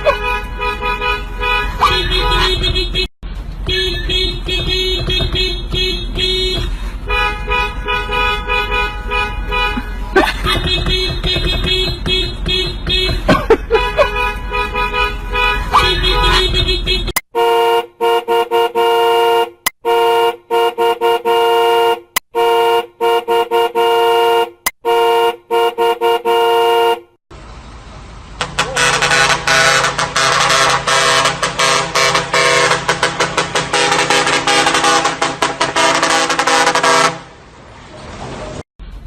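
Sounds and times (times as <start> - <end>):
car horn honking: 0.0 - 27.2, 28.4 - 37.4
fuller horn stuttering: 0.0 - 27.2, 28.4 - 37.4.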